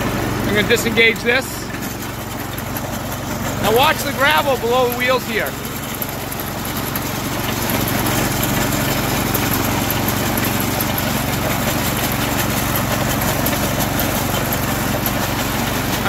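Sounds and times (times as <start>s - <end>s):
snowblower engine running: 0.0s - 16.0s
wheels on gravel: 0.0s - 16.0s.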